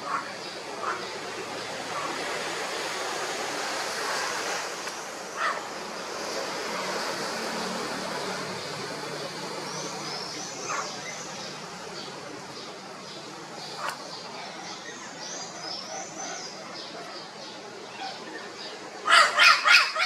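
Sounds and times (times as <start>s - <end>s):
rushing background noise: 0.0s - 19.8s.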